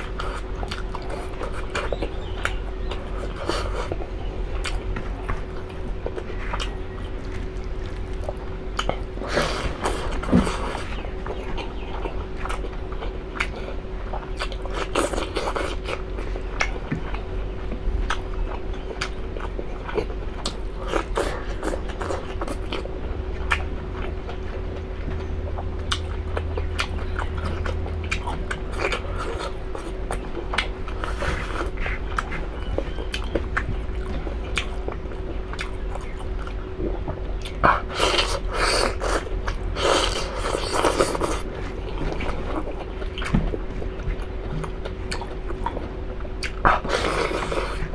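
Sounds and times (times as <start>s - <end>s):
person chewing wet food: 0.0s - 47.9s
steady low hum: 0.0s - 47.9s.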